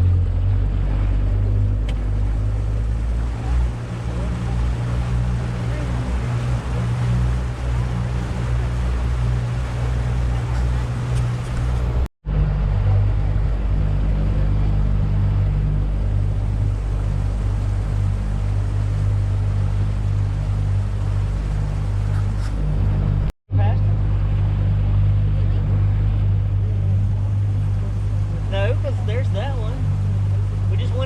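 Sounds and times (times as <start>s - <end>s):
boat motor running: 0.0s - 31.0s
water rushing: 0.0s - 31.0s
wind: 0.0s - 31.0s.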